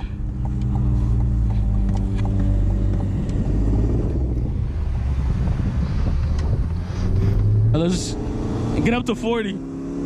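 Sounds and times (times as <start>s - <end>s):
car engine running: 0.0s - 9.6s
tyre and road rumble: 0.0s - 9.6s.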